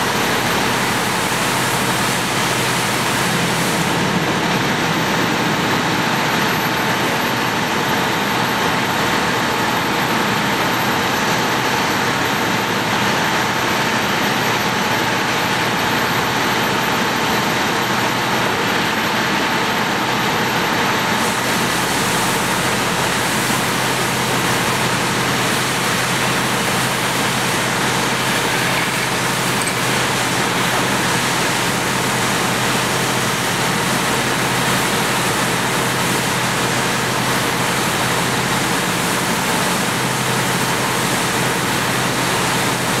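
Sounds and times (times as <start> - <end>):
fire engine pump running: 0.0 - 43.0.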